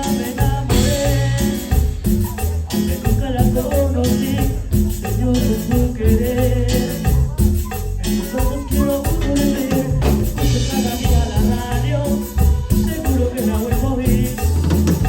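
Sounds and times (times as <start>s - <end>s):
heavy bass notes: 0.0s - 15.0s
live band playing latin music: 0.0s - 15.0s.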